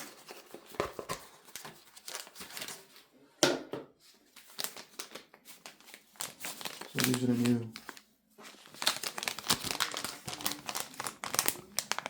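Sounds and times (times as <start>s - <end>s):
small parts and packaging rustling: 0.0s - 3.1s, 4.0s - 12.0s.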